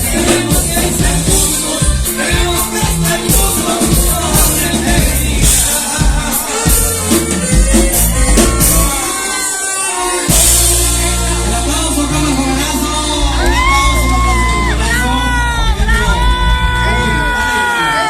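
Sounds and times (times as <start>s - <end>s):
bass: 0.0s - 9.1s, 10.2s - 18.0s
band playing live: 0.0s - 18.0s
drums: 0.0s - 18.0s
person singing: 0.0s - 18.0s.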